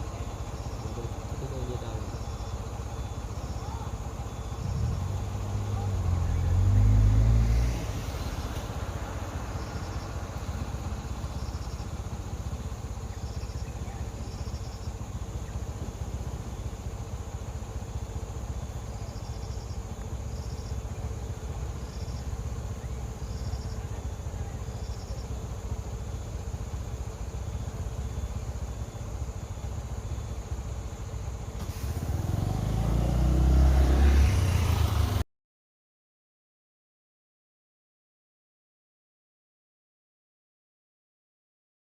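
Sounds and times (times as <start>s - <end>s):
rapid insect chirps: 0.0s - 35.2s
vehicle engine idling: 0.0s - 35.2s.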